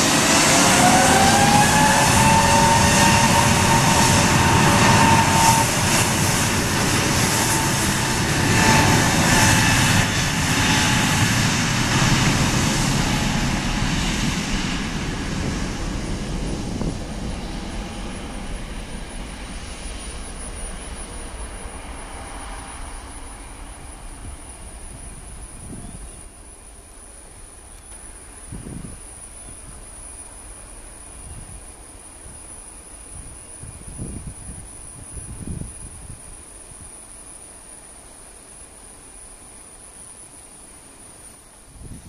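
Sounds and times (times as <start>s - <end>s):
jet engines rushing and whining: 0.0s - 37.8s.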